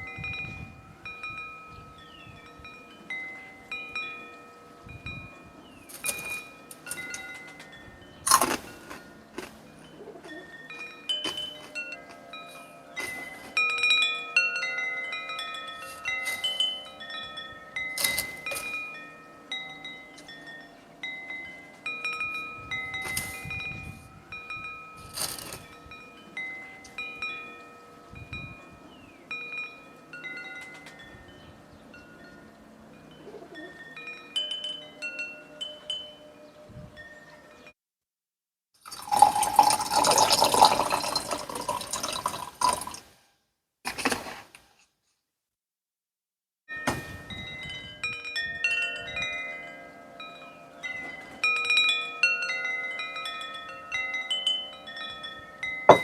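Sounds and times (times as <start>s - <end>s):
wind chimes tinkling: 0.0s - 37.8s, 38.8s - 43.3s, 46.7s - 56.0s.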